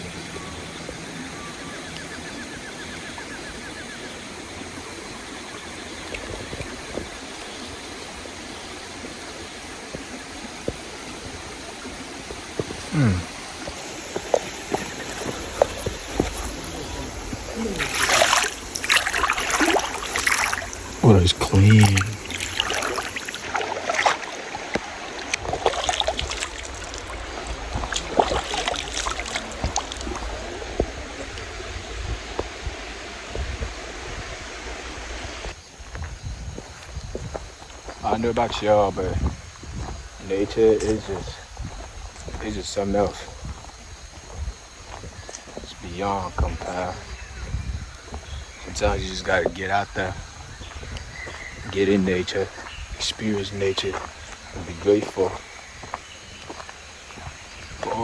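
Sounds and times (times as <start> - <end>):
stream water rushing: 0.0 - 35.6, 37.4 - 58.0.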